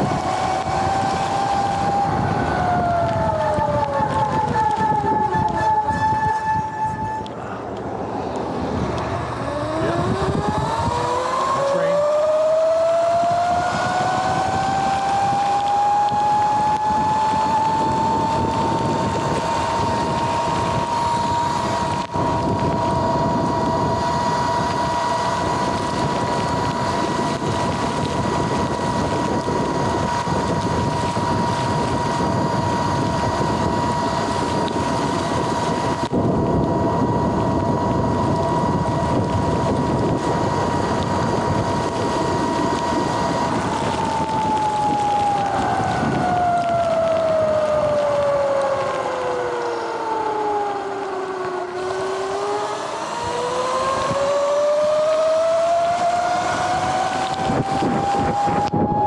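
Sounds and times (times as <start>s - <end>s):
electric motor and chain whine: 0.0s - 59.0s
wind rushing on microphone: 0.0s - 59.0s.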